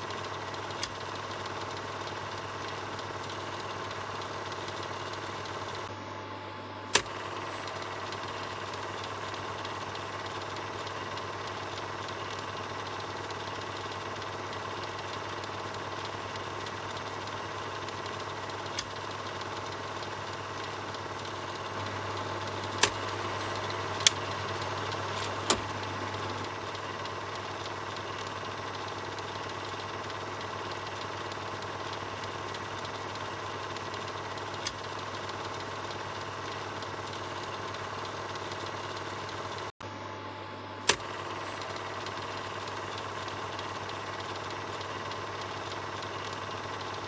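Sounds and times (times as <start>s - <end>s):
sharp clicks: 0.0s - 5.9s, 6.9s - 39.7s, 40.8s - 47.0s
film projector whirring clatter: 0.0s - 47.0s.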